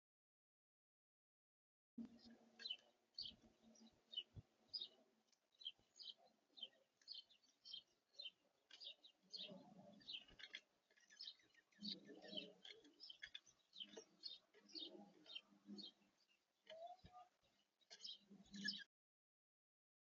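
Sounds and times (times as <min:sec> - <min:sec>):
songbirds chirping: 0:02.0 - 0:18.9.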